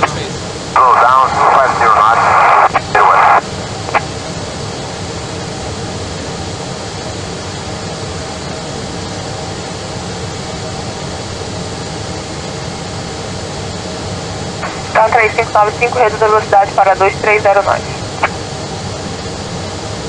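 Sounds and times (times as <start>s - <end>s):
airliner taxiing rumble and hiss: 0.0s - 20.0s.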